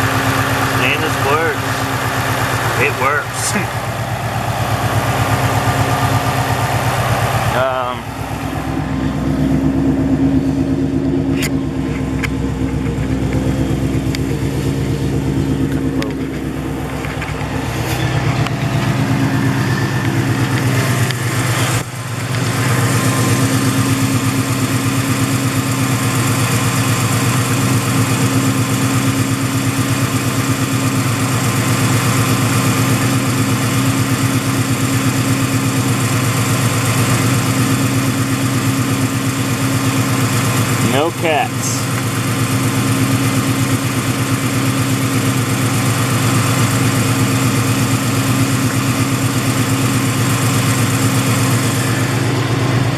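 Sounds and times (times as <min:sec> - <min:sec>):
car engine idling with deep burble: 0:00.0 - 0:52.9.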